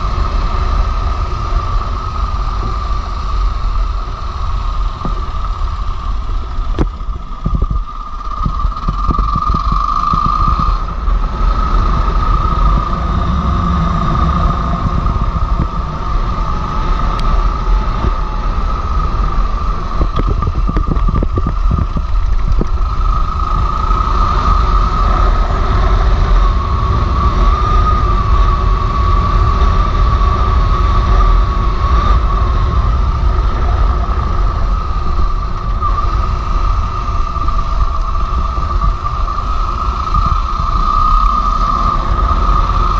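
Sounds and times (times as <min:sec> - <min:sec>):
low rumble: 0:00.0 - 0:42.9
motorcycle engine running: 0:00.0 - 0:42.9
steady whine: 0:00.0 - 0:42.9
wind rush: 0:00.0 - 0:42.9.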